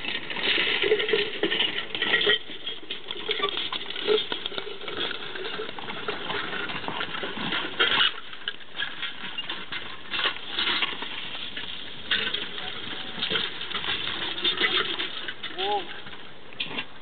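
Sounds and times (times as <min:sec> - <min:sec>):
plow tearing through sod: 0:00.0 - 0:17.0.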